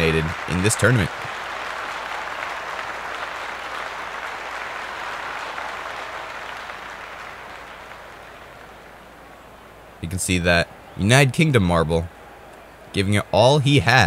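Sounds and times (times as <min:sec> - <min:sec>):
crowd applause: 0:00.0 - 0:14.0.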